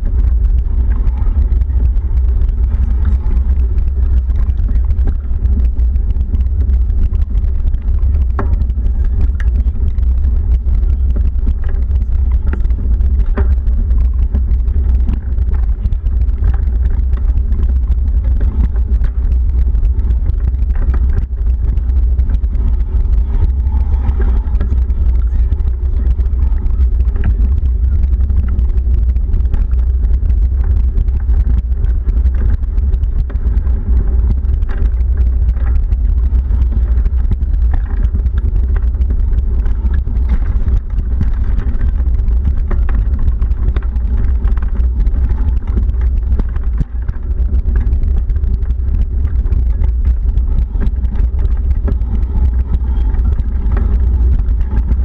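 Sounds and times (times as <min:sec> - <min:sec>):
low rumble of moving vehicle: 0:00.0 - 0:55.0.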